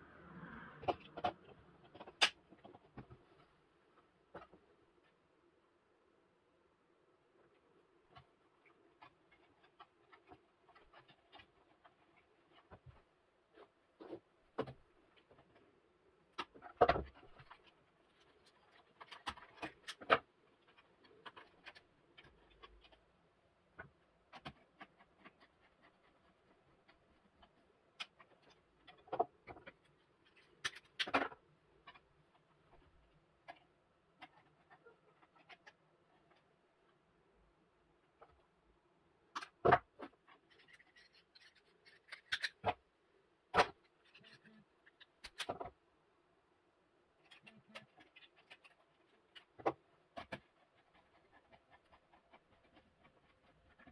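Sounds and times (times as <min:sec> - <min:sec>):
clicks and scrapes of wiring work: 0:00.8 - 0:05.2, 0:07.4 - 0:38.6, 0:39.3 - 0:45.9, 0:47.0 - 0:53.9.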